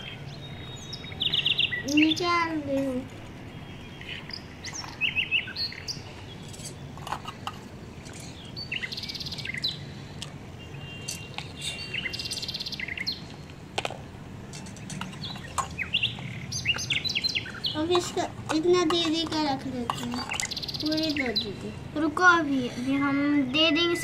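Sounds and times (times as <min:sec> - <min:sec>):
small birds chirping: 0:00.0 - 0:13.6, 0:14.5 - 0:24.0.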